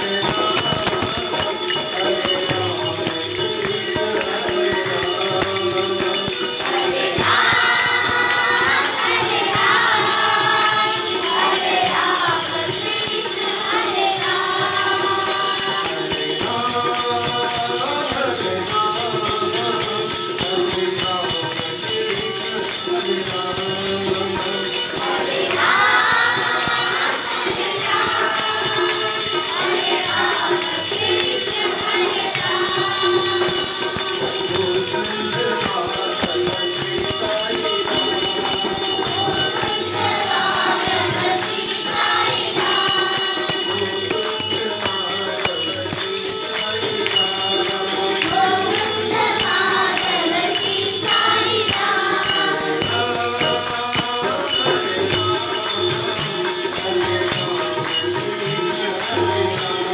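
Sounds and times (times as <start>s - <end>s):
jingling percussion beat: 0.0s - 59.9s
voices singing devotional song: 0.0s - 59.9s.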